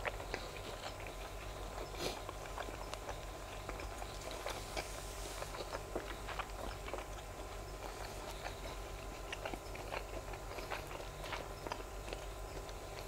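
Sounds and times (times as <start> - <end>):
wet chewing clicks and smacks: 0.0 - 13.0.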